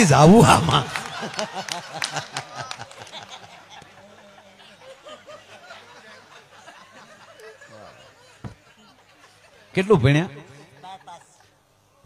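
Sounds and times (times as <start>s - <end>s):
people laughing softly: 0.4s - 12.0s.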